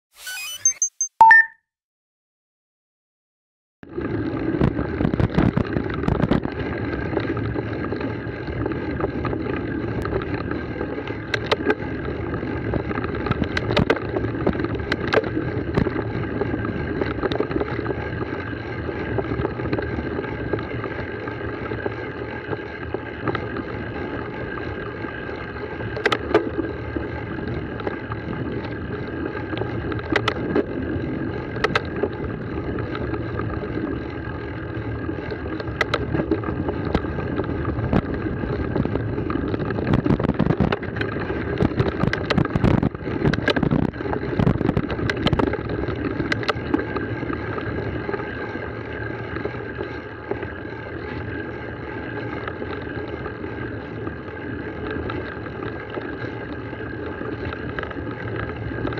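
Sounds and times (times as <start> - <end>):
bike tyres rumbling on rocky trail: 3.8 - 58.9.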